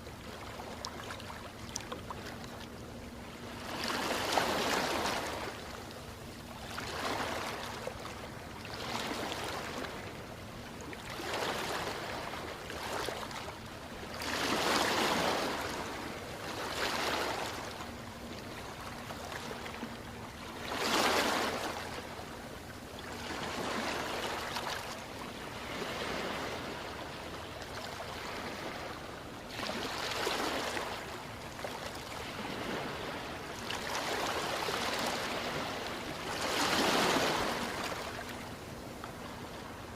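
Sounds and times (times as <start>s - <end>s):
ocean waves breaking: 0.2s - 5.8s, 6.5s - 39.9s.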